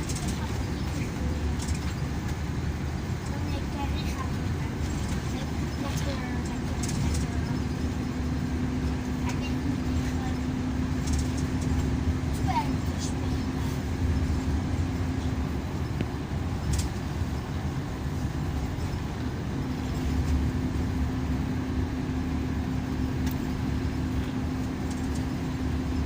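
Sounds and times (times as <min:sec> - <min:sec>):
low engine drone: 0:00.0 - 0:26.0
road rumble: 0:00.0 - 0:26.0
steady hum: 0:00.0 - 0:26.0.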